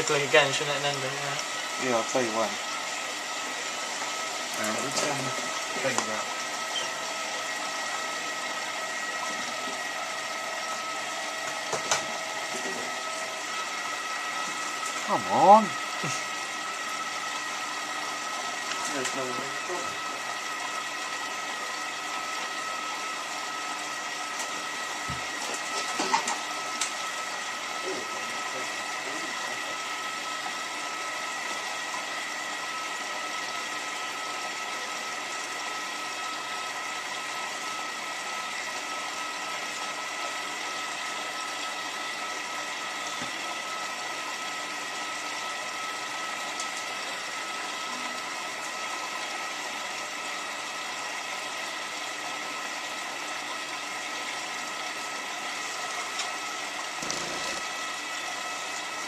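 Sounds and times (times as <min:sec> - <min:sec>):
washing machine filling with water: 0:00.0 - 0:59.0.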